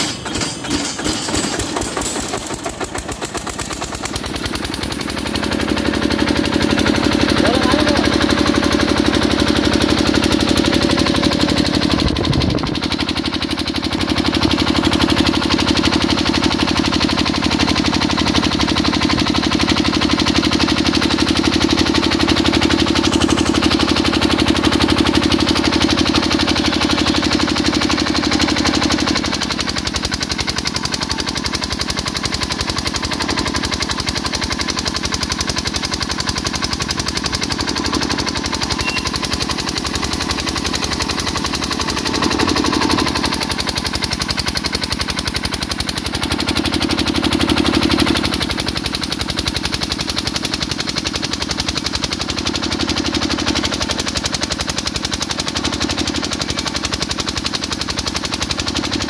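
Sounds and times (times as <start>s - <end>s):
diesel generator chugging: 0.0s - 59.0s.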